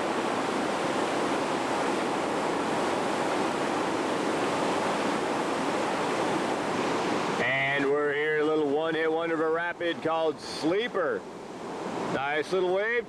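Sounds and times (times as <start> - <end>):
churning river water: 0.0 - 13.0.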